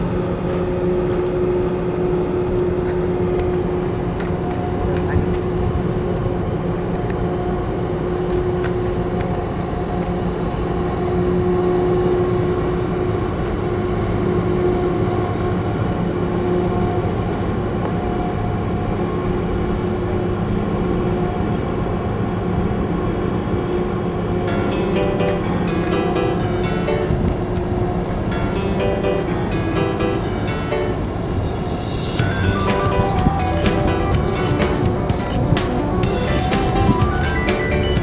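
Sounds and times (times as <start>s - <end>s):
engine drone: 0.0s - 38.0s.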